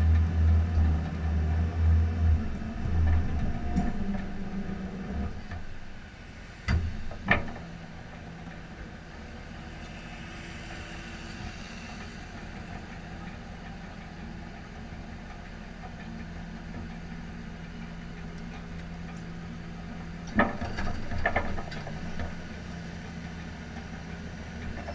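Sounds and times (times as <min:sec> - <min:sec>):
vehicle engine idling: 0:00.0 - 0:24.9.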